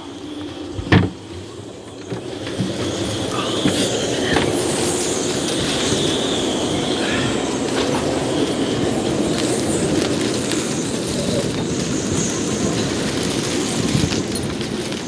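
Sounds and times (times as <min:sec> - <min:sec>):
storm wind whistling through rigging: 0:00.0 - 0:15.0.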